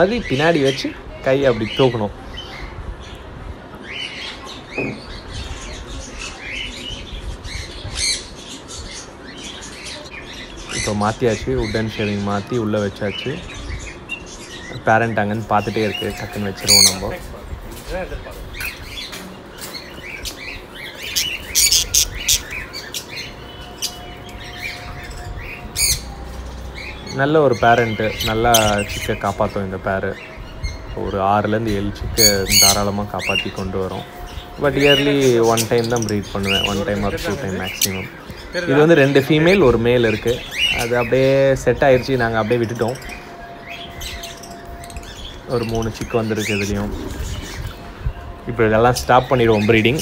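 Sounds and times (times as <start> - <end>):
parrots chirping: 3.9 - 17.4, 18.4 - 50.0.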